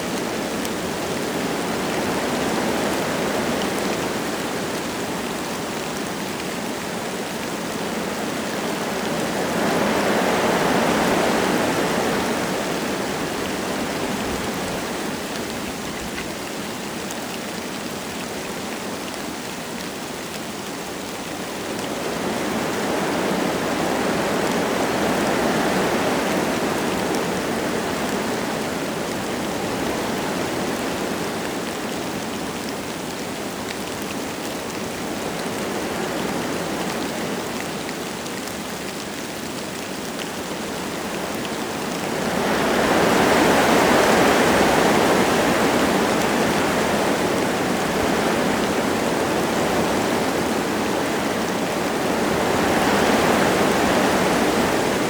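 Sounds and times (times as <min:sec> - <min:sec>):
light rain pattering: 0:00.0 - 0:55.0
wind gusting through trees: 0:00.0 - 0:55.0.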